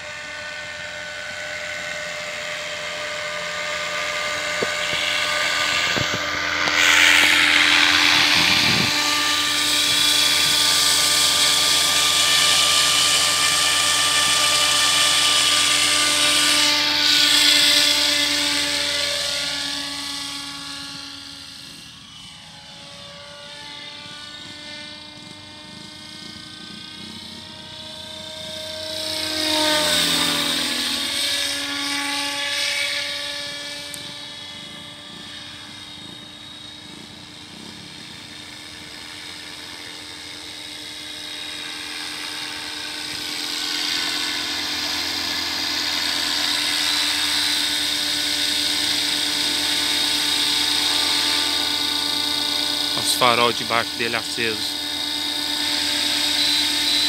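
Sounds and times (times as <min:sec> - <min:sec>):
electric motor and gears whining: 0:00.0 - 0:57.0
helicopter rotor noise: 0:00.0 - 0:57.0.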